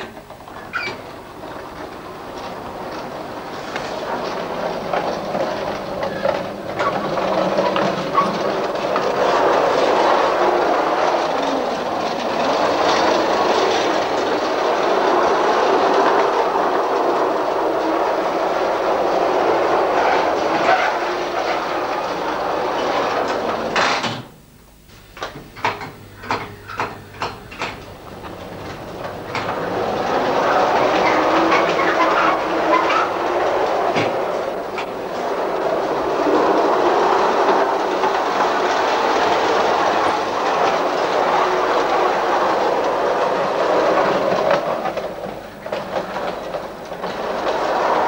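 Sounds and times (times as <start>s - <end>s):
model tram wheels rumbling on rails: 0.0s - 24.3s, 25.0s - 48.0s.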